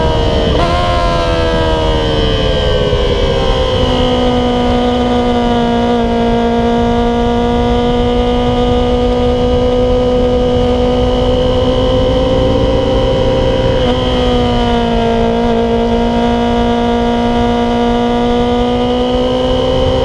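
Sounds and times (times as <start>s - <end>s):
motorcycle engine steady revs: 0.0s - 20.0s
wind rushing over microphone: 0.0s - 20.0s.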